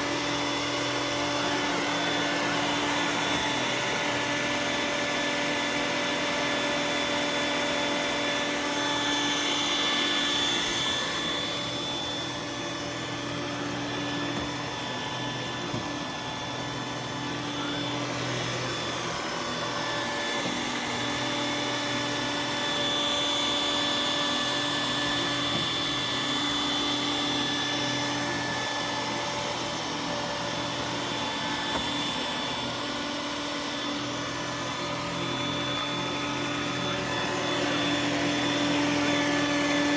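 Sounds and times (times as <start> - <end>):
robot vacuum motor humming: 0.0 - 39.9.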